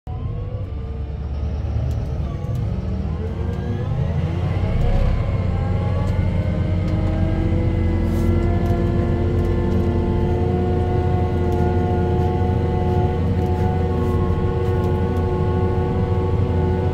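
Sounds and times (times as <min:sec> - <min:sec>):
tractor diesel engine rumble: 0:00.1 - 0:16.9.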